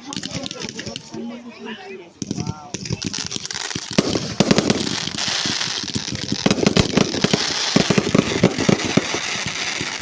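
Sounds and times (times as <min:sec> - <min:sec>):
fireworks cracks and bangs: 0:00.0 - 0:01.3, 0:02.2 - 0:10.0
crackling hiss: 0:00.0 - 0:01.4, 0:02.2 - 0:10.0.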